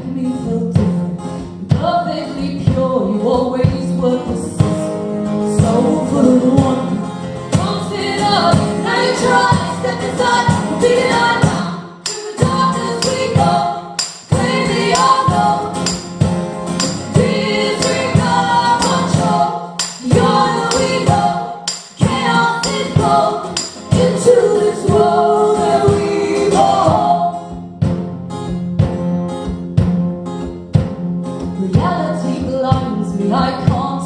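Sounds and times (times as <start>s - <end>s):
live band playing: 3.7s - 31.8s.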